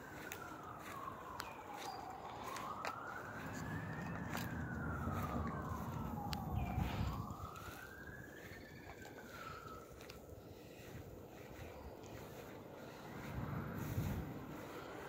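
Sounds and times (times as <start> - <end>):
emergency vehicle siren wailing: 0.0 - 15.0.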